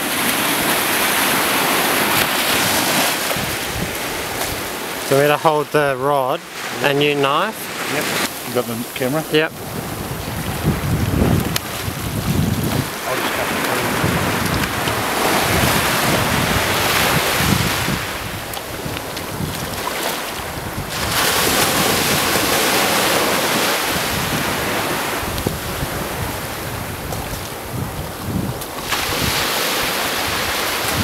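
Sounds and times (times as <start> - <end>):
wind buffeting microphone: 0.0 - 5.2, 7.4 - 31.0
small waves washing up beach: 0.0 - 31.0.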